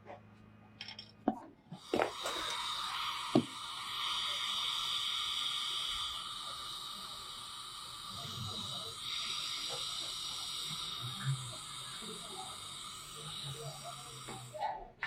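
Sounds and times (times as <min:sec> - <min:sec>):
steady hiss: 0:01.8 - 0:14.6.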